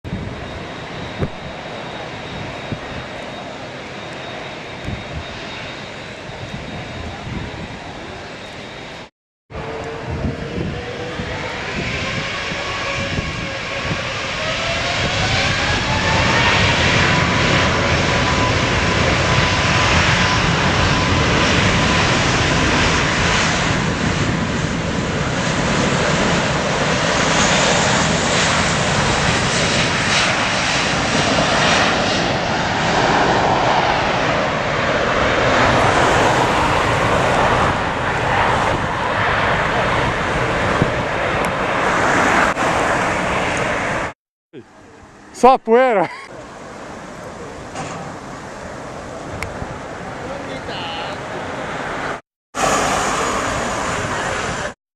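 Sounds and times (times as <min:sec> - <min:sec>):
jet engines at takeoff power: 0:00.1 - 0:54.8.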